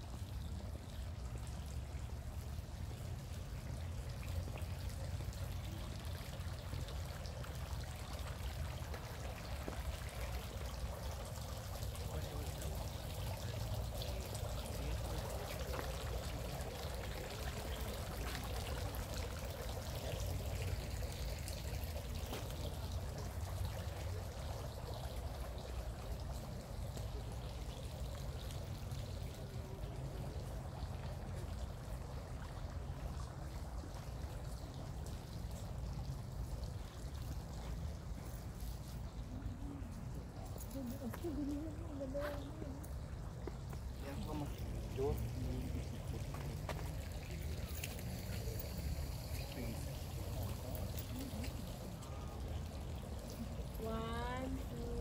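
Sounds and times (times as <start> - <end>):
fountain splashing into pond: 0.0 - 55.0.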